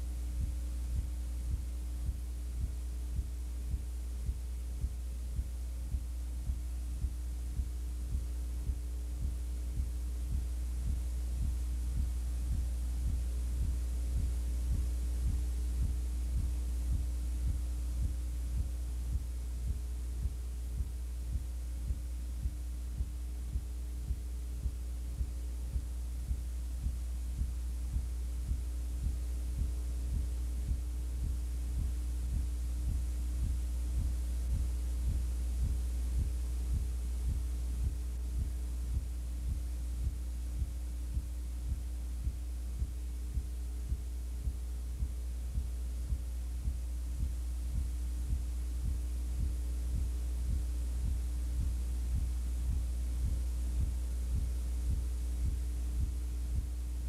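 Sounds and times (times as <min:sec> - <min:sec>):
faint ticking pulse: 0:00.0 - 0:57.0
low electrical hum: 0:00.0 - 0:57.0.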